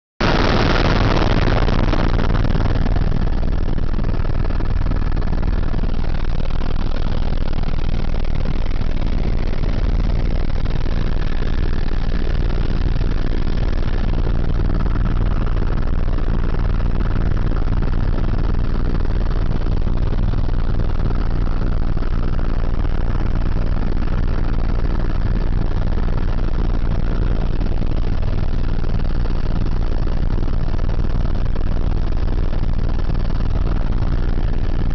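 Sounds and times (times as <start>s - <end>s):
helicopter rotor and engine drone: 2.6s - 34.9s.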